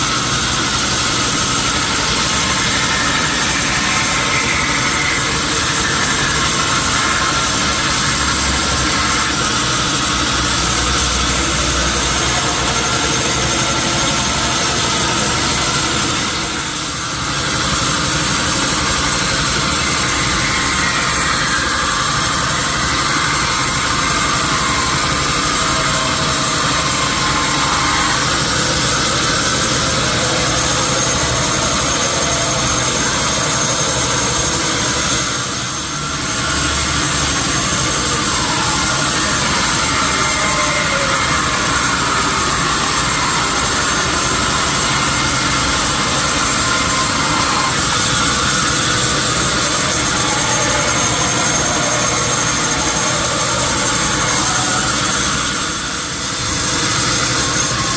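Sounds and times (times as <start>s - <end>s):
saw cutting wood: 0.0s - 57.9s.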